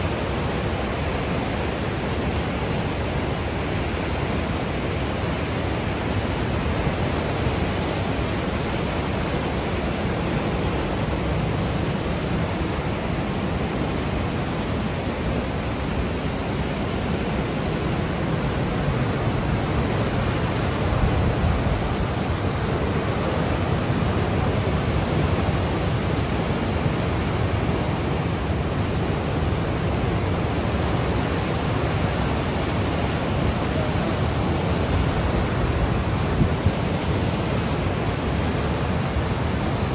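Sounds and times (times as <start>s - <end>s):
rapids roaring: 0.0s - 39.9s.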